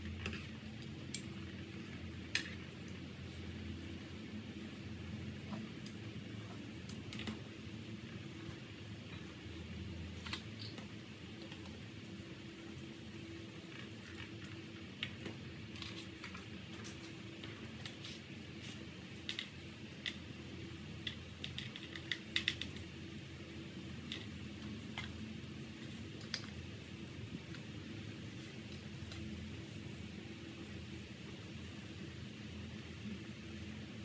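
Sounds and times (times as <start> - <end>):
pot of water boiling: 0.0 - 34.0.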